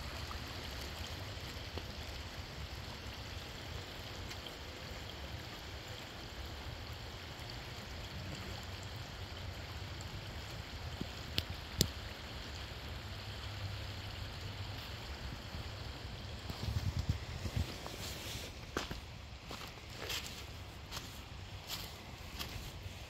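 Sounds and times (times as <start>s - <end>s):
stream babbling over stones: 0.0s - 23.0s.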